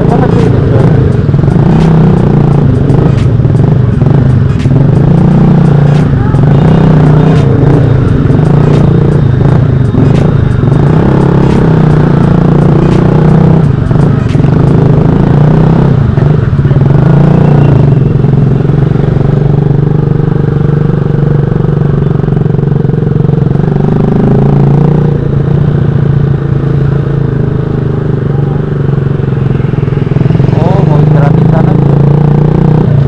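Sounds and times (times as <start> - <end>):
motorcycle with loud exhaust: 0.0 - 33.0.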